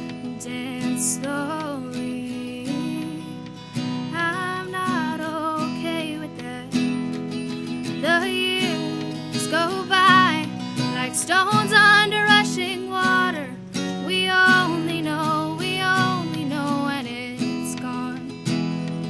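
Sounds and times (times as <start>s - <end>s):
strummed acoustic guitar: 0.0s - 19.0s
woman singing with vibrato: 0.4s - 3.4s, 4.1s - 6.9s, 8.0s - 18.4s.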